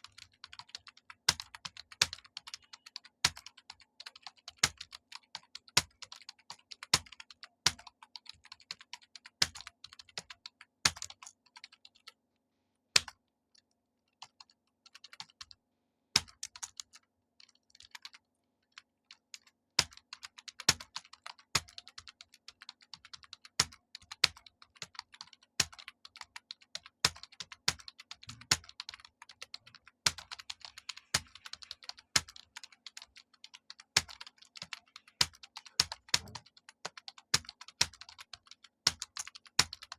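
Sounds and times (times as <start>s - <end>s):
fast typing on keyboard: 0.0s - 12.2s, 13.0s - 13.2s, 14.1s - 15.6s, 16.2s - 39.9s.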